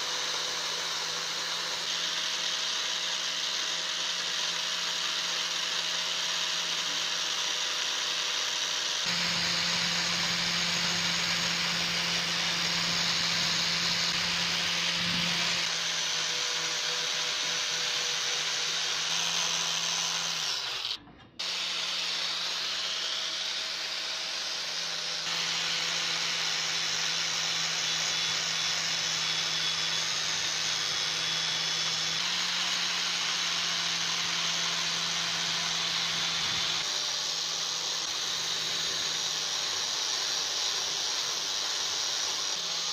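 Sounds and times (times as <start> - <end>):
angle grinder grinding steel: 0.0 - 42.9.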